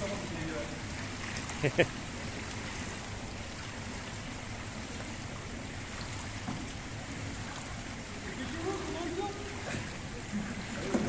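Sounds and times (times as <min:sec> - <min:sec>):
pool water lapping and splashing: 0:00.0 - 0:11.0.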